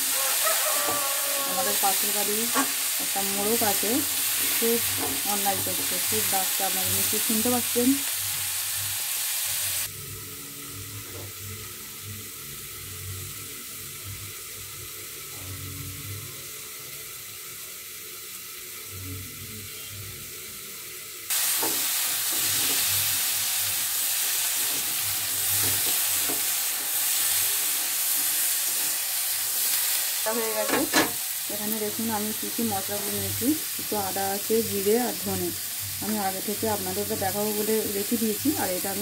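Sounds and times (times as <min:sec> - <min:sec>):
vegetables sizzling in oil: 0:00.0 - 0:39.0.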